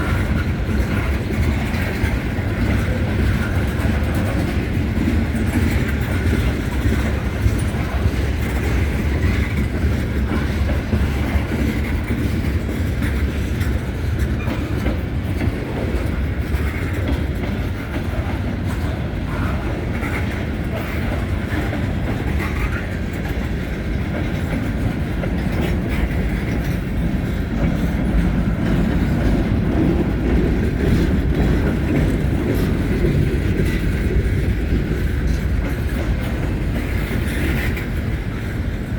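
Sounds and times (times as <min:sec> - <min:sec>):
freight train rumbling by: 0:00.0 - 0:38.9
wheels clattering on rails: 0:00.0 - 0:38.9.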